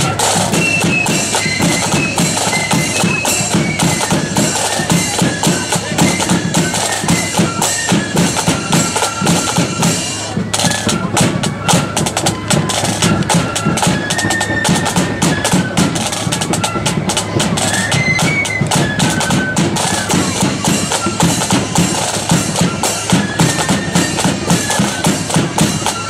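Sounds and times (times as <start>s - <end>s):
flute melody: 0.0s - 26.0s
rapid snare drumming: 0.0s - 26.0s.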